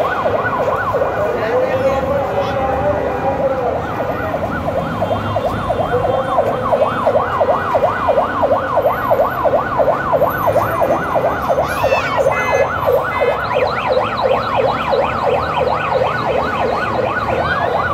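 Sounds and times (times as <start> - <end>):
higher siren: 0.0 - 17.9
street traffic: 0.0 - 17.9
electronic siren yelping: 3.2 - 17.9.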